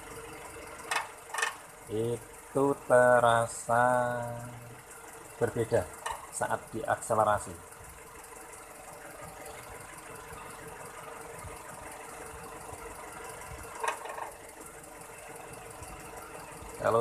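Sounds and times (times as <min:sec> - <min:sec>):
car engine idling with ticking: 0:00.0 - 0:17.0.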